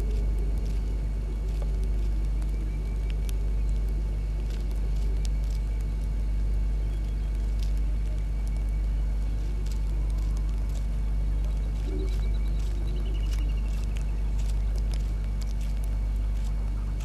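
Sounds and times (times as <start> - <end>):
faint high-pitched whine: 0.0 - 17.0
low rumble and hum: 0.0 - 17.0.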